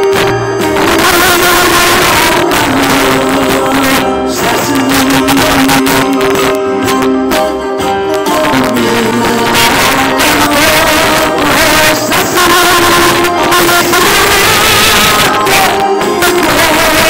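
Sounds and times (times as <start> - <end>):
accordion: 0.0 - 17.0
people singing long notes: 0.0 - 17.0.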